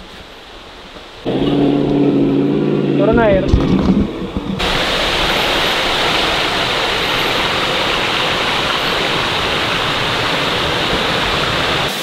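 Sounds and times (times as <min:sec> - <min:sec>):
waterfall rushing: 0:00.6 - 0:12.0.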